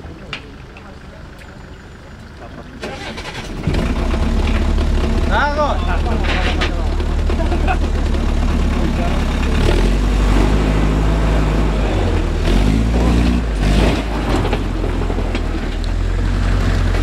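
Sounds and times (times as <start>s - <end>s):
off-road engine revving under load: 2.8s - 17.0s.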